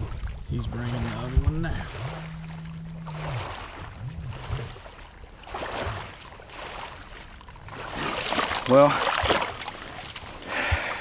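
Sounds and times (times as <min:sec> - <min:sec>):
wading through water: 0:00.0 - 0:11.0.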